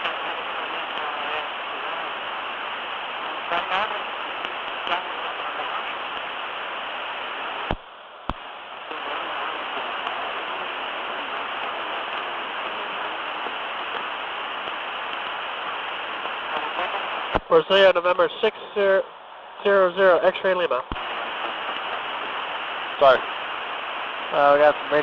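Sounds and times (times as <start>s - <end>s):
cockpit background hiss: 0.0s - 25.0s.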